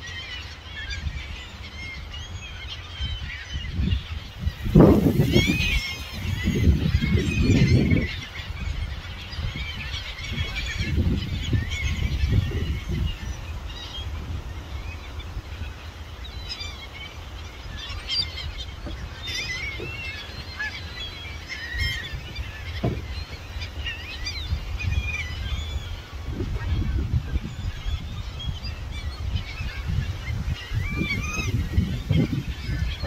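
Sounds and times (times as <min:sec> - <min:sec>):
gulls calling: 0:00.0 - 0:33.0
wind rumbling on microphone: 0:00.0 - 0:33.0.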